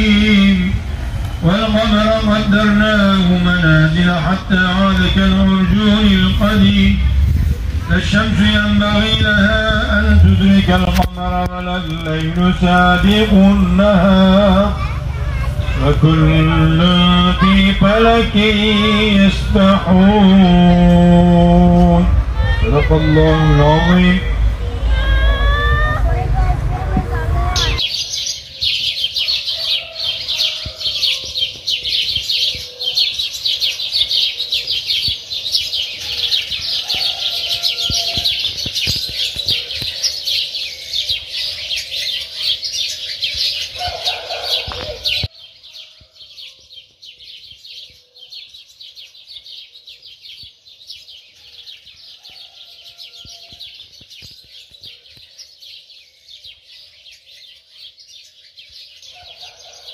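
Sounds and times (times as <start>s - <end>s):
small birds chirping chorus: 0.0s - 59.9s.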